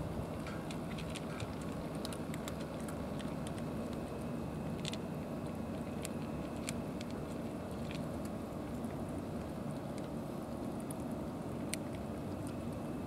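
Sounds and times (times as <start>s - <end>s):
cats crunching dry kibble: 0.0s - 13.0s
low background rumble: 0.0s - 13.0s.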